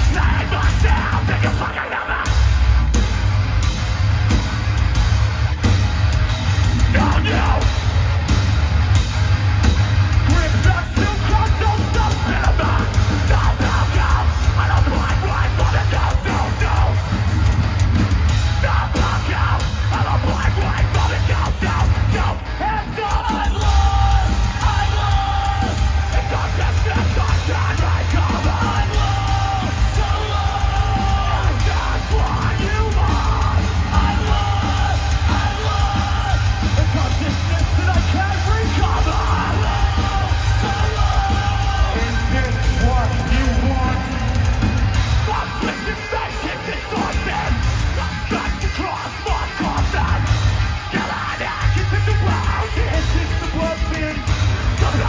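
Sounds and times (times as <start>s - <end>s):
metal band playing: 0.0s - 55.0s.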